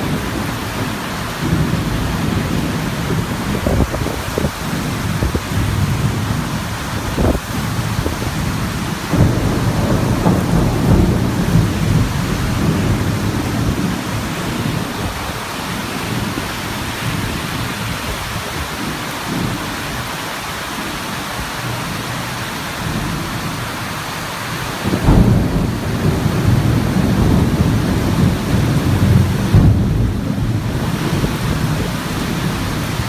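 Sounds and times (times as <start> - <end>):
thunder rumbling: 0.0 - 19.7, 24.7 - 33.0
heavy rain: 0.0 - 33.0.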